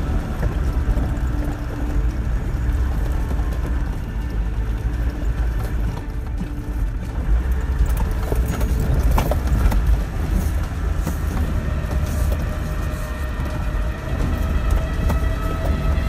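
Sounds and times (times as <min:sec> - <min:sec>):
body and suspension rattles: 0:00.0 - 0:16.0
engine and drivetrain rumble: 0:00.0 - 0:16.0.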